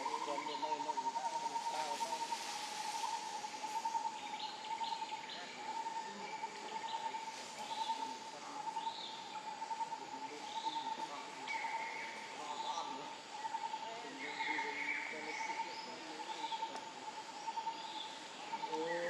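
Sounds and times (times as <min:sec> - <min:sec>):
bird-like chirps: 0:00.0 - 0:19.0.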